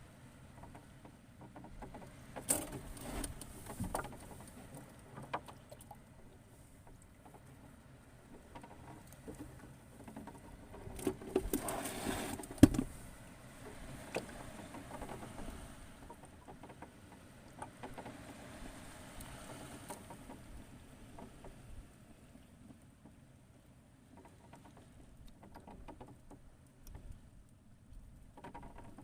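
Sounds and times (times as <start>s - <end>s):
small clicks and rustles: 0.4s - 29.0s.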